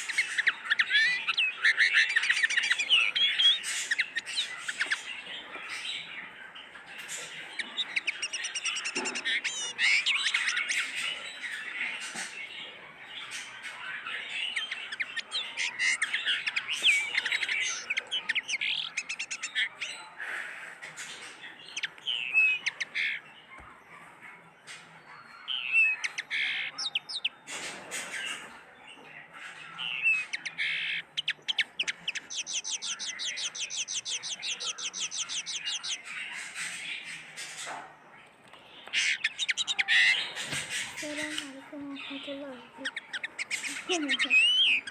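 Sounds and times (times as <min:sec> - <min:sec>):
cage birds chirping and squawking: 0:00.0 - 0:44.9.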